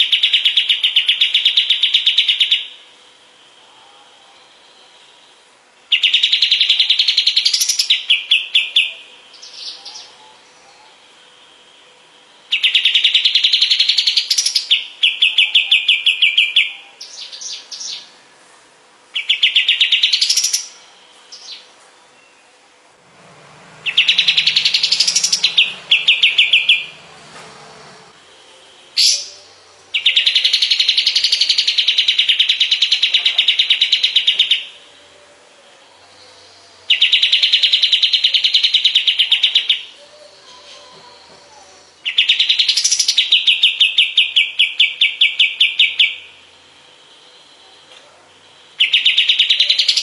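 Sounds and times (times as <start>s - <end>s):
songbird trilling: 0.0s - 2.8s, 5.9s - 11.6s, 12.5s - 18.2s, 19.1s - 22.5s, 23.6s - 27.3s, 28.0s - 34.9s, 36.1s - 46.4s, 48.4s - 50.0s.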